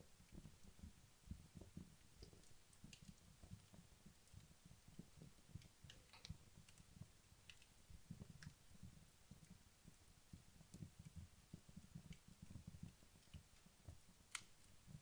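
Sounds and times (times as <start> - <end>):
logs crackling in fireplace: 0.0 - 15.0.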